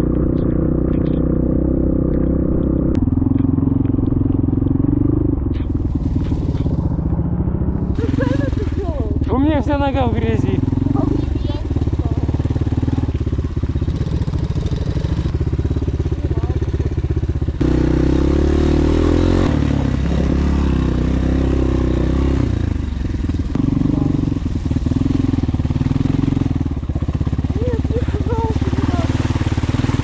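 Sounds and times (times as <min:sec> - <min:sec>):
small motorbike engine revving: 0:00.0 - 0:30.0.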